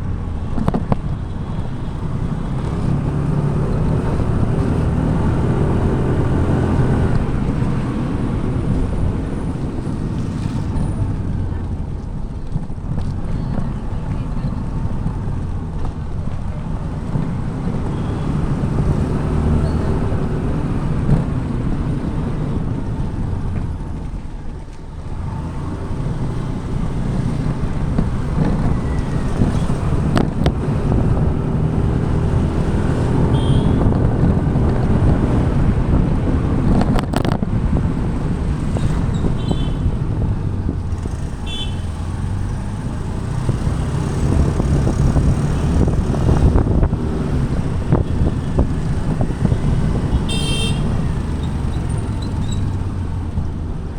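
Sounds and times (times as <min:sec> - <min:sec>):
road and wind noise: 0:00.0 - 0:53.9
scooter engine running: 0:01.4 - 0:53.9.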